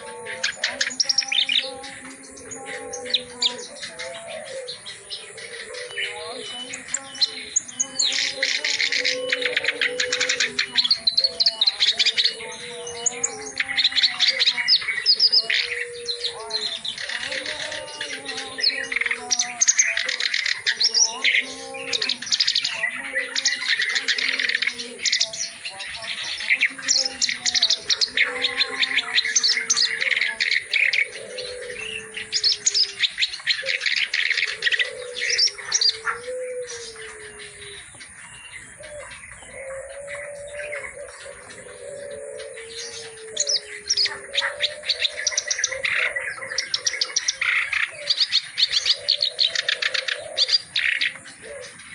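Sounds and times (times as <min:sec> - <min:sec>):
low cooing call: 0:00.0 - 0:51.9
warbler singing chirps and trills: 0:00.0 - 0:51.9.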